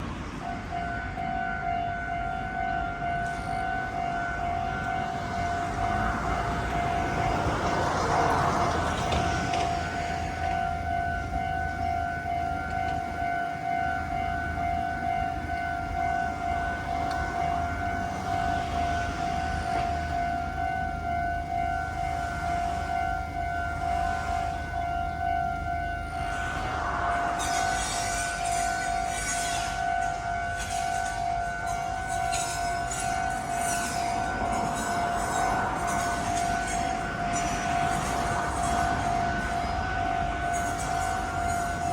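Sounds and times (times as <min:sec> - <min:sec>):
level crossing warning bell: 0:00.0 - 0:41.9
rushing noise: 0:03.4 - 0:41.9.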